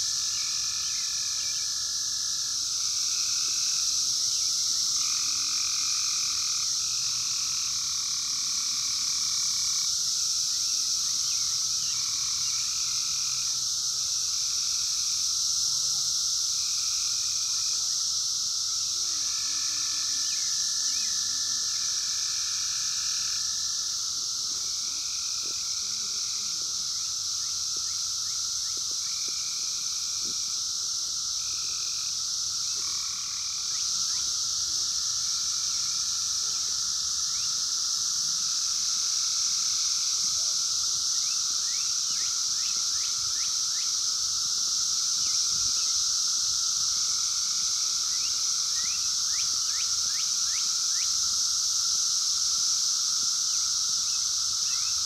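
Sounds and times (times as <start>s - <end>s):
cicadas droning: 0.0s - 55.0s
rising insect chirps: 0.0s - 55.0s.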